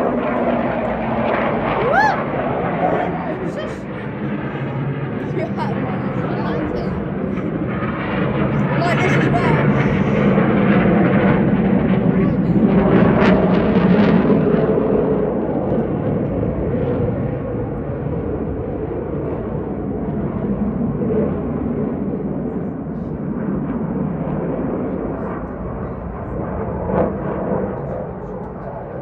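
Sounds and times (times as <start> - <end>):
fighter jet engines roaring: 0.0 - 29.0.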